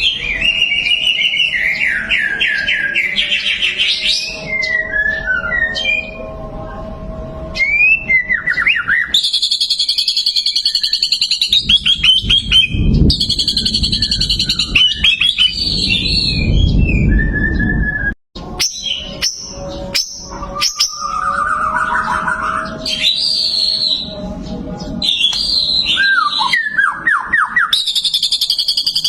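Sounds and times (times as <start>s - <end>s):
bird whistling and trilling: 0.0s - 6.3s, 7.6s - 29.0s.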